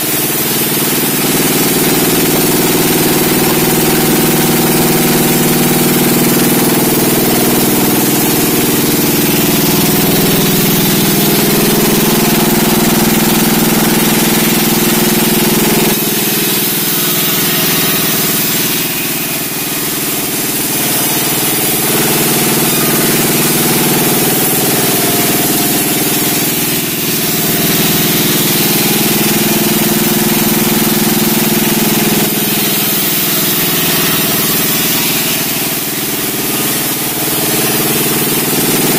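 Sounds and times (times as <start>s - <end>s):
sawmill machine drone with hiss: 0.0s - 38.9s.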